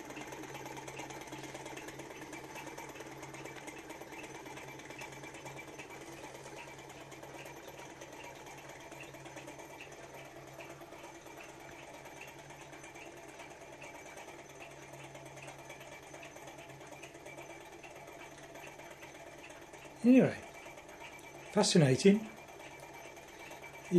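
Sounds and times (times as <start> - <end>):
small engine mechanical clatter: 0.0 - 23.9.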